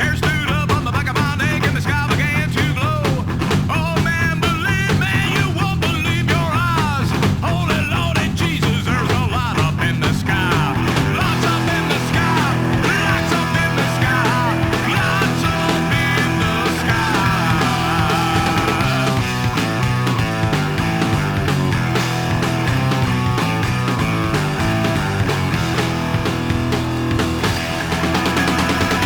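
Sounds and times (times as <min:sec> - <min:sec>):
rockabilly band playing: 0:00.0 - 0:29.0.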